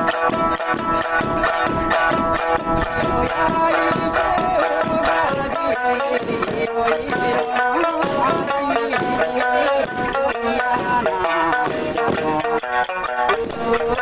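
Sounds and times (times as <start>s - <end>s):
person singing: 0.0s - 14.0s
plucked lute: 0.0s - 14.0s
taiko drums: 0.0s - 14.0s.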